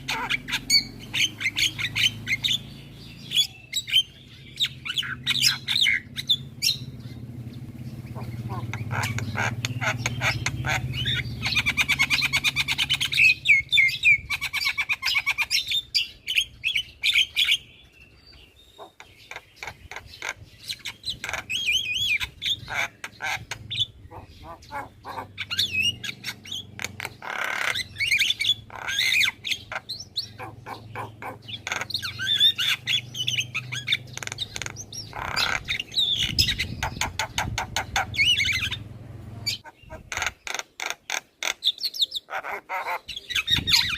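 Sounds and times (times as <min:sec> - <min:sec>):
myna bird calling: 0:00.0 - 0:43.9.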